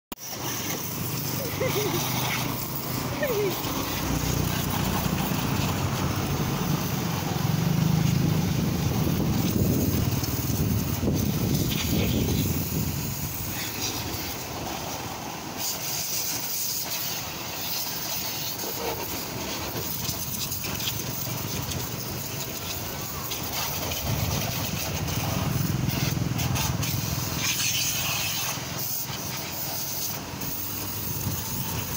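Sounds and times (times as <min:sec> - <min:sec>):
vehicle engine rumbling: 0:00.2 - 0:31.9.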